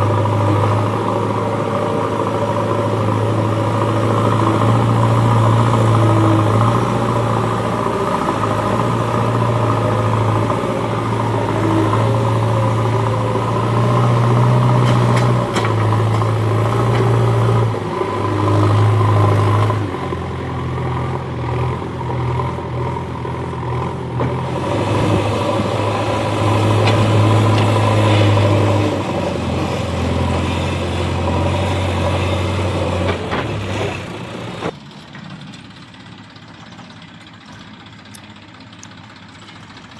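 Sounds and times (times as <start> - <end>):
heavy diesel engine revving: 0.0 - 34.8.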